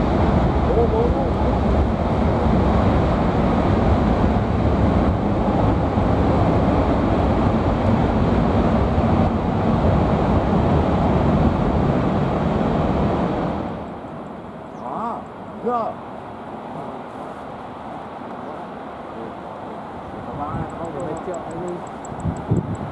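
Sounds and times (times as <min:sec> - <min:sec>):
turboprop plane flying overhead: 0:00.0 - 0:22.9.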